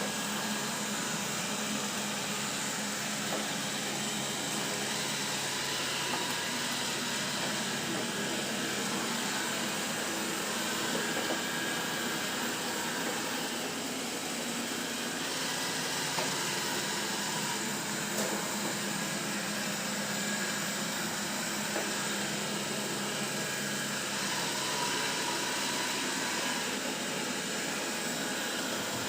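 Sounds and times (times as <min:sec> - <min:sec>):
robot vacuum cleaner whirring: 0:00.0 - 0:29.0.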